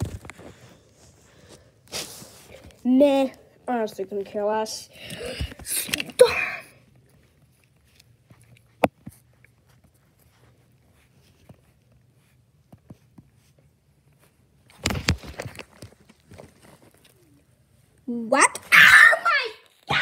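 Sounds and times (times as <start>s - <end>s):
rustling handling noise: 0.0s - 18.0s.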